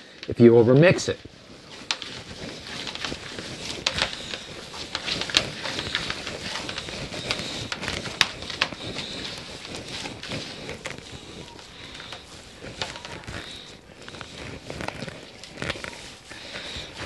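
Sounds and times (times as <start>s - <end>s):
hands squishing meat mixture: 1.4s - 17.0s.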